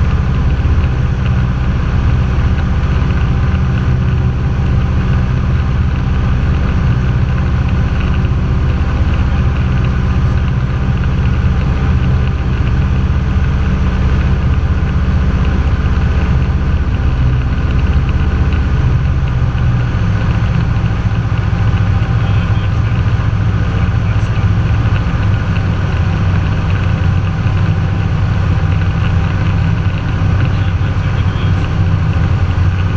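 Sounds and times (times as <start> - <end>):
airplane engine drone in cabin: 0.0 - 32.9.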